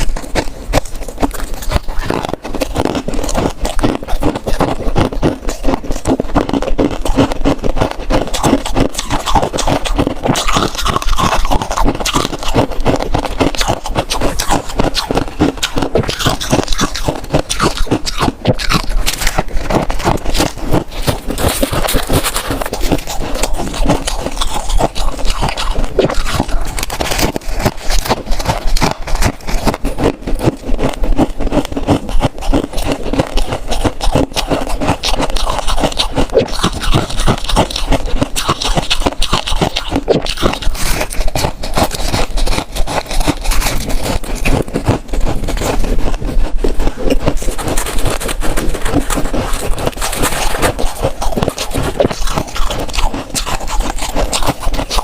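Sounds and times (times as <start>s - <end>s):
chewing frost crunches: 0.0s - 55.0s.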